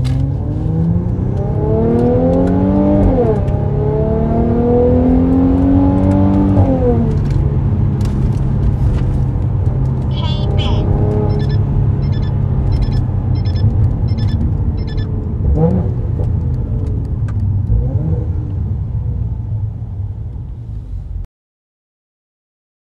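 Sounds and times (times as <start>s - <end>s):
car engine deep rumble: 0.0s - 21.3s.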